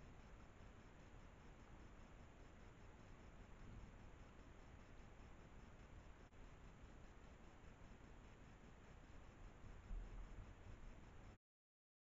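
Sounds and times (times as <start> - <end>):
low microphone hiss: 0.0 - 11.4.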